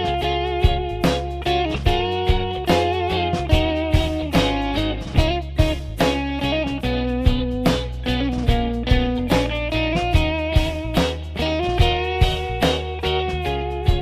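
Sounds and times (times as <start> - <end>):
guitar-led music with drums: 0.0 - 14.0.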